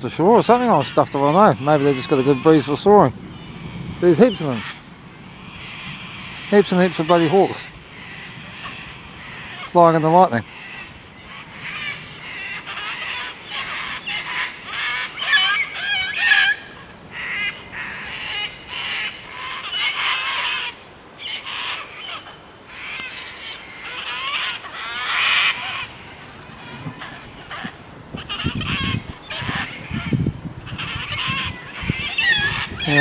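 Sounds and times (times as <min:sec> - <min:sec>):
cockatoos screeching: 0:00.0 - 0:33.0.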